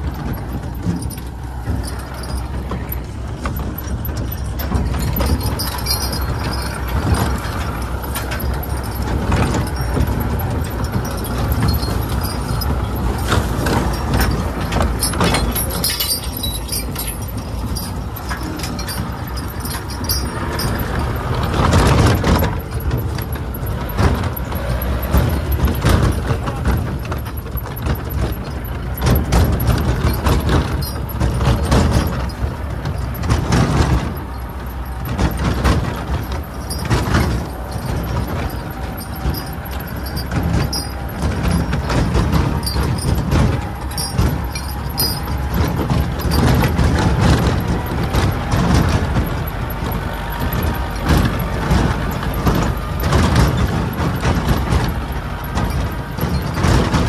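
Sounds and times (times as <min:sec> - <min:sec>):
tractor diesel engine running: 0:00.0 - 0:57.0
trailer rattling and clattering: 0:00.0 - 0:57.0.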